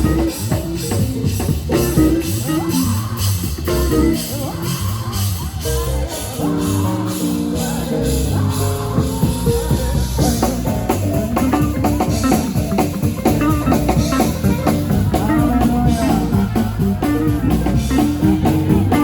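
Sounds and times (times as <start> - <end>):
drum beat with guitar: 0.0 - 19.0
held instrumental notes: 0.0 - 19.0.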